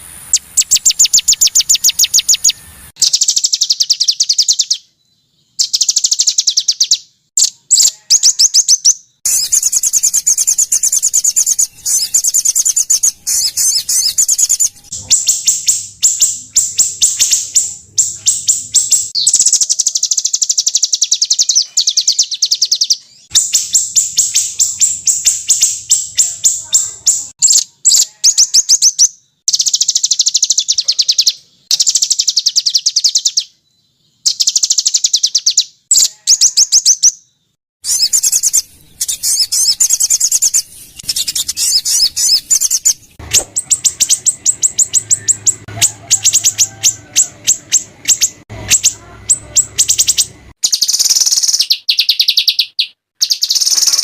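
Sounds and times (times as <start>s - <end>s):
songbirds trilling rapid chirps: 0.0s - 54.0s.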